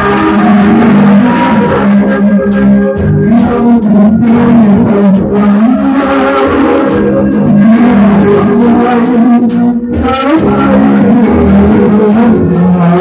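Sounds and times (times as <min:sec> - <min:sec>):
music with plucked guitar: 0:00.0 - 0:13.0.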